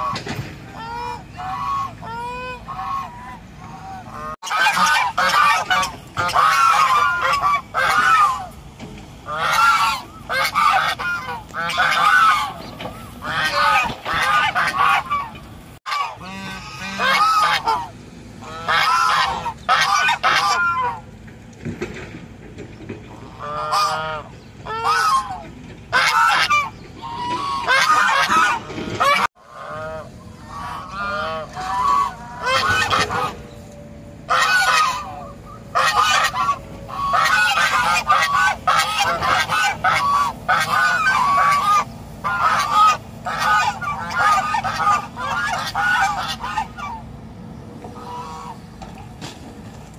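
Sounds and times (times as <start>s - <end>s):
geese honking: 0.0s - 21.2s, 22.8s - 49.4s.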